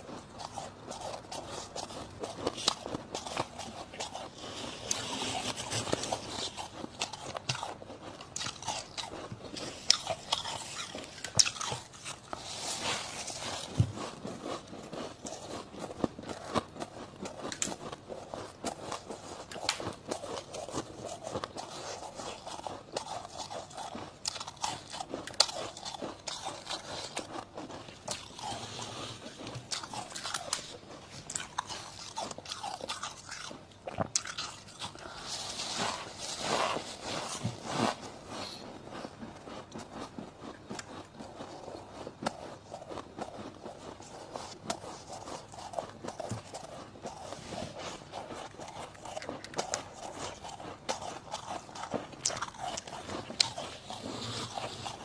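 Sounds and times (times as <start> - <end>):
frost being chewed: 0.0 - 55.0.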